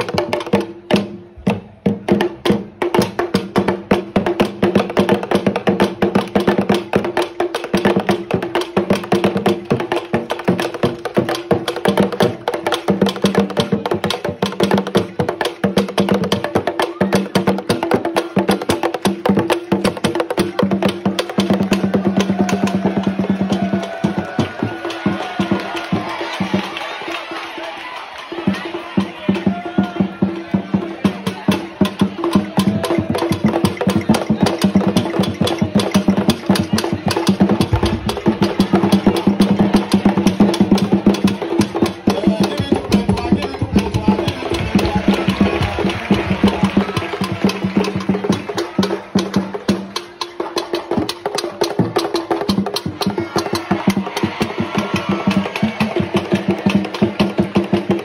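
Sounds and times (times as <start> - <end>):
wood-block-like percussion strokes: 0.0 - 26.9, 28.2 - 58.0
fast dance drumming: 0.0 - 58.0.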